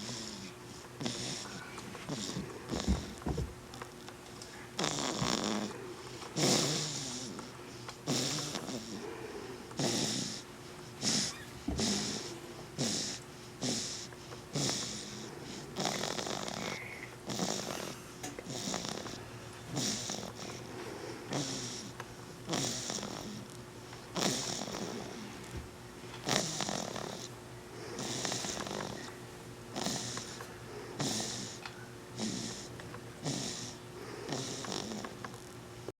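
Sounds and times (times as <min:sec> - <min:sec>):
baby snoring: 0:00.0 - 0:03.8, 0:04.5 - 0:25.4, 0:26.2 - 0:31.6, 0:32.2 - 0:35.4.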